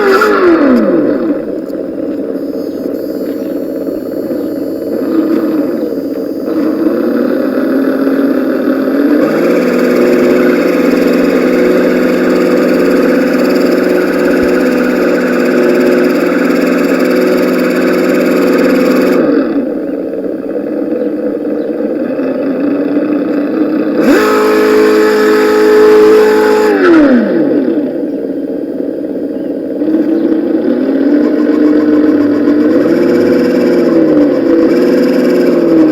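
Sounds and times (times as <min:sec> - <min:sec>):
simulated engine revving: 0:00.0 - 0:28.3, 0:29.7 - 0:35.9.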